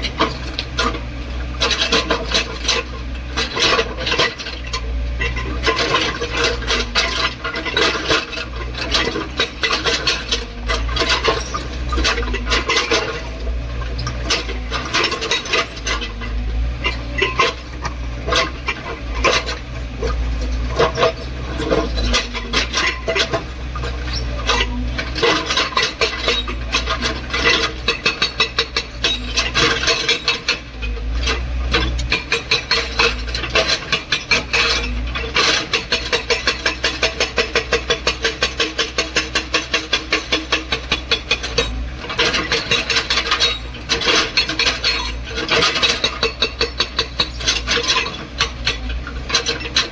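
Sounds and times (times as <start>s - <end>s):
excavator engine drone: 0.0s - 49.9s.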